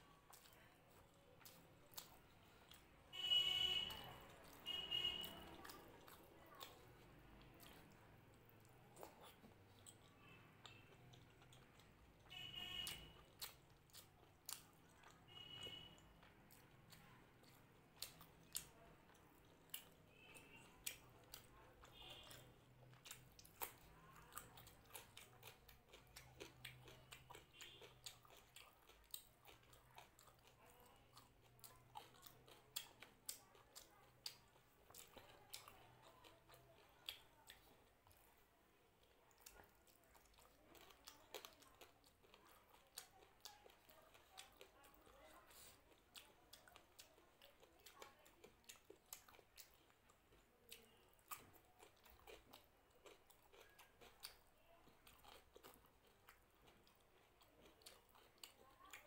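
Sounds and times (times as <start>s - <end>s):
quiet chewing: 0.0s - 59.0s.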